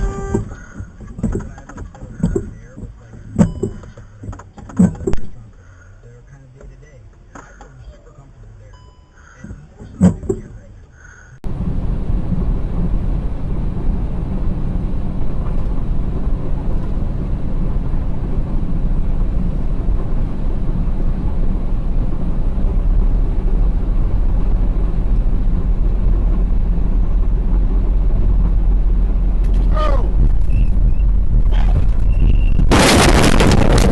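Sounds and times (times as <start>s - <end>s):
road vehicle engine rumble: 0.0s - 33.9s.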